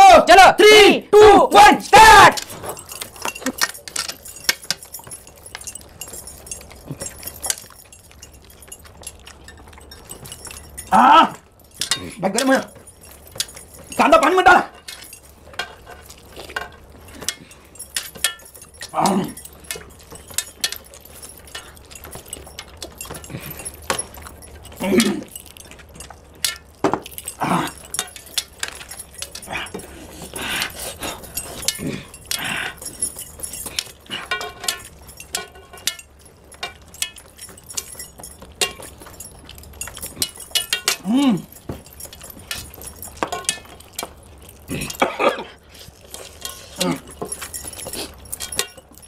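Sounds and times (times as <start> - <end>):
hands mixing food on plates: 0.3 - 49.0
metal clinking on plates: 2.1 - 49.0.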